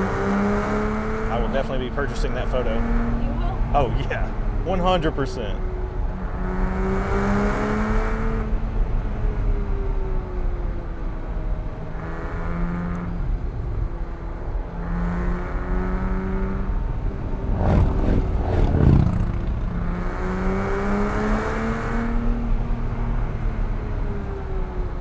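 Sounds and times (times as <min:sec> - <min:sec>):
car engine revving: 0:00.0 - 0:25.0
engine crackles: 0:00.0 - 0:25.0.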